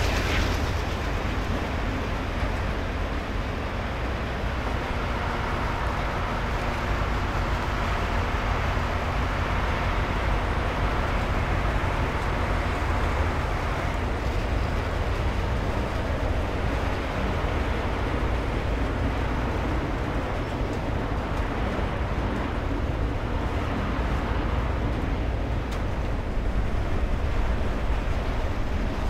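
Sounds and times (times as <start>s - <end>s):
low hum: 0.0s - 29.0s
train wheels rumbling on rail: 0.0s - 29.0s.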